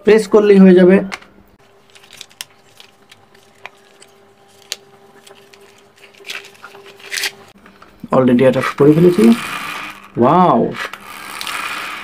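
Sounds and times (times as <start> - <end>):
faint steady hum: 0.0 - 10.3.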